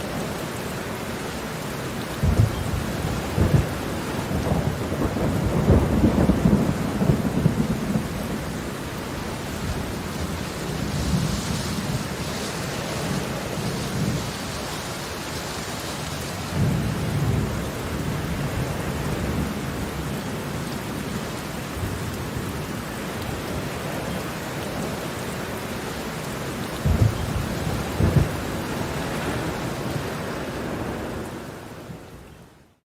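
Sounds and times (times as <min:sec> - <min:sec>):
heavy rain falling: 0:00.0 - 0:32.7.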